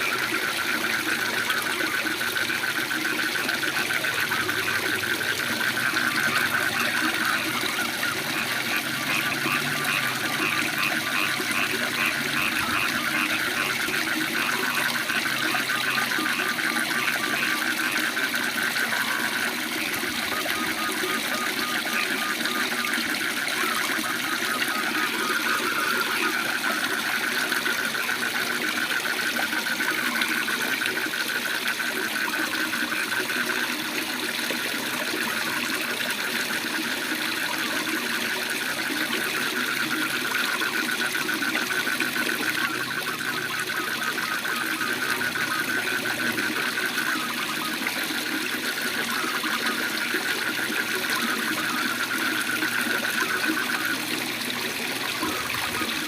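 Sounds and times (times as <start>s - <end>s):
frogs calling in a trill: 0.0s - 56.0s.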